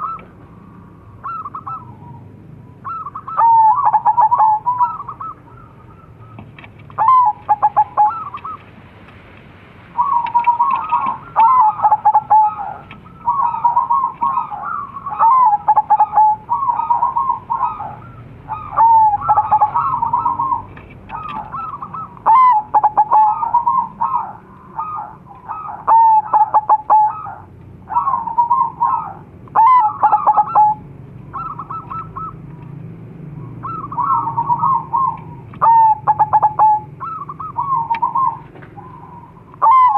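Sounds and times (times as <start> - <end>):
doves cooing: 0.0 - 8.8, 9.9 - 39.9.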